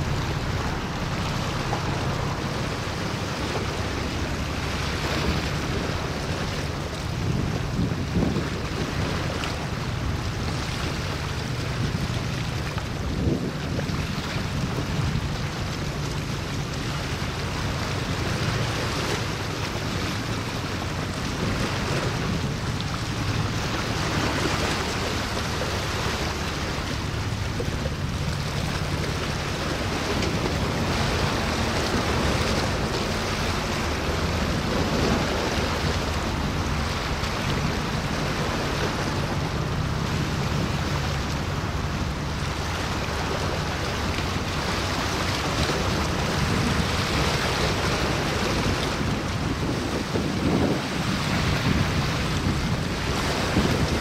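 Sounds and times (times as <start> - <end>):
low engine drone: 0.0 - 54.0
water noise: 0.0 - 54.0
wind: 0.0 - 54.0.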